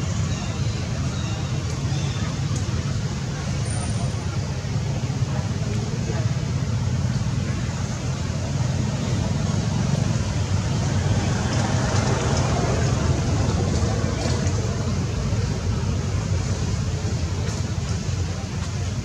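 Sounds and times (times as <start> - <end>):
low outdoor background rumble: 0.0 - 19.0.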